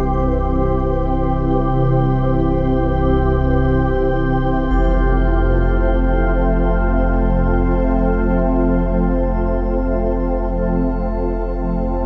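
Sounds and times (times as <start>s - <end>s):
calm ambient synthesizer music: 0.0s - 12.0s.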